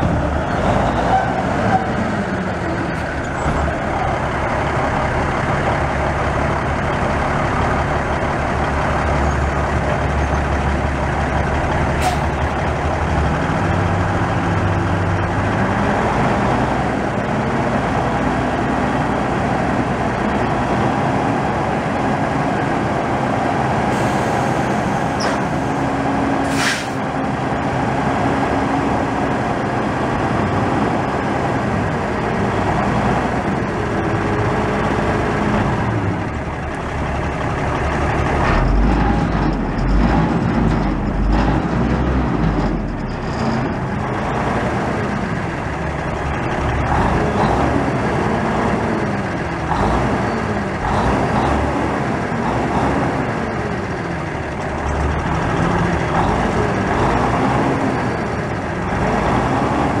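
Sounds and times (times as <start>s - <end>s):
diesel truck engine revving: 0.0s - 60.0s.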